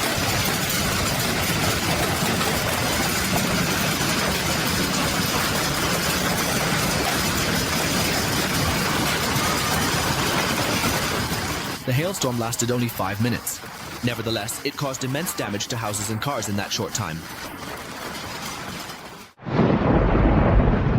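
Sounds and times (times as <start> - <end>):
hailstones clattering: 0.0 - 19.4.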